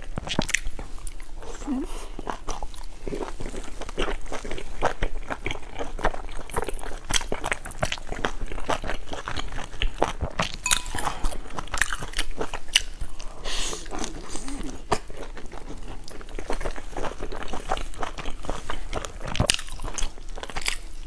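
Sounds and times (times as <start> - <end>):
chewing soft buns: 0.0 - 10.6, 11.7 - 21.0.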